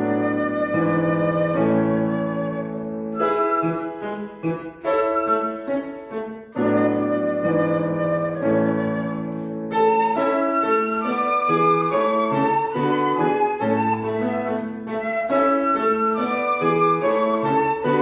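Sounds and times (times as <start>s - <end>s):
melody instrument sustained notes: 0.0s - 18.0s
piano: 0.0s - 18.0s.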